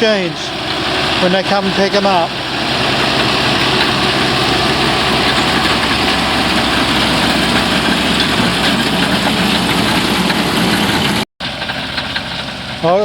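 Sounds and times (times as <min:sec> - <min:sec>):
lifter elevator working: 0:00.0 - 0:13.0
tractor engine running: 0:00.0 - 0:13.0.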